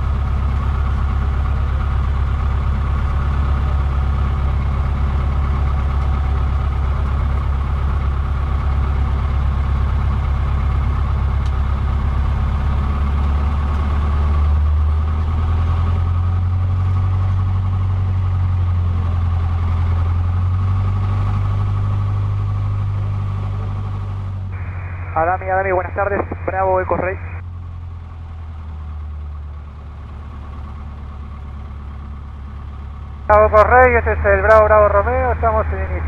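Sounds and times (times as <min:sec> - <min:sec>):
light aircraft engine and propeller: 0:00.0 - 0:36.0.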